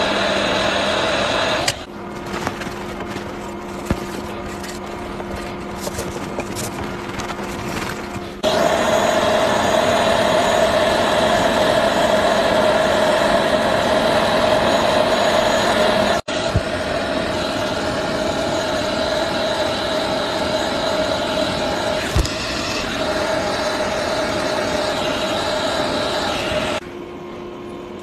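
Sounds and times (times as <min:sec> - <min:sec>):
loud whir with held tone: 0:00.0 - 0:28.0
steady machine hum: 0:00.0 - 0:28.0.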